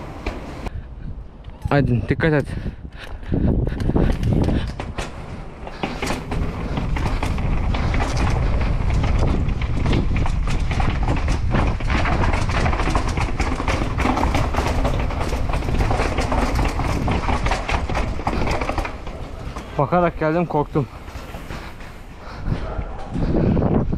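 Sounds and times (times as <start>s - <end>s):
wind buffeting microphone: 0.0s - 23.9s
bike rattling and knocking: 2.6s - 23.9s.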